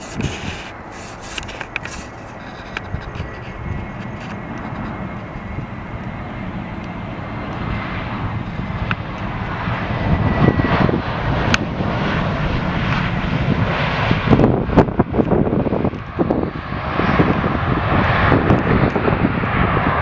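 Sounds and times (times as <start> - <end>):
airplane engine: 0.0 - 20.0.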